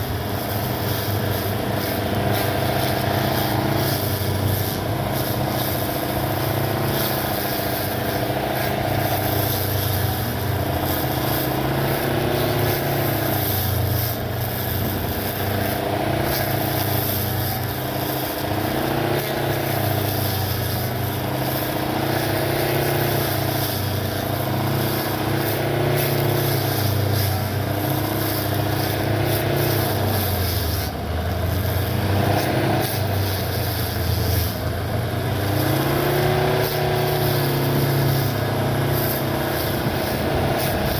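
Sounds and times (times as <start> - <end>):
electric lawn mower motor running: 0.0 - 40.9.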